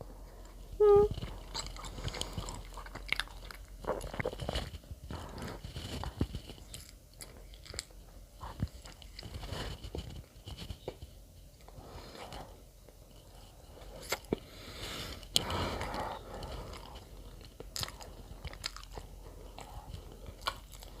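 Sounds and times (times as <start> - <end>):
person chewing bread: 0.1 - 21.0.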